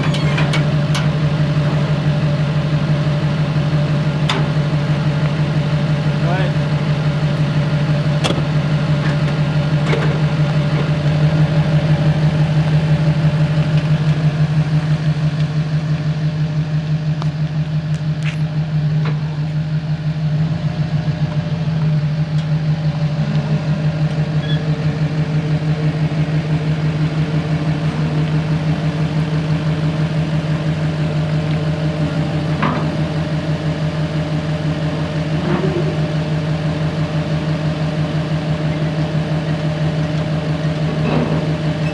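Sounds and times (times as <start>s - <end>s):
engine idling: 0.0s - 41.9s.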